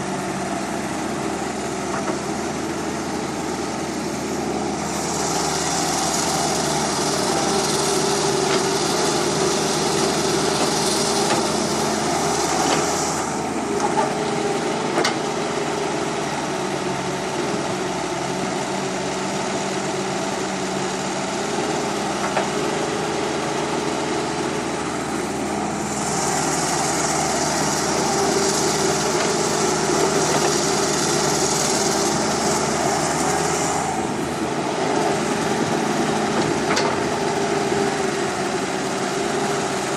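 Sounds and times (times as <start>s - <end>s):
higher motor whine: 0.0s - 19.2s, 20.0s - 39.9s.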